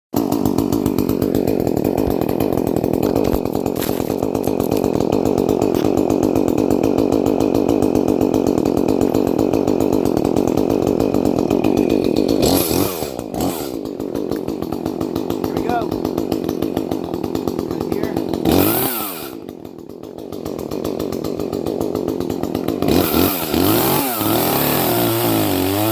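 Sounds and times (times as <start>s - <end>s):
chainsaw running at high revs: 0.2s - 25.9s.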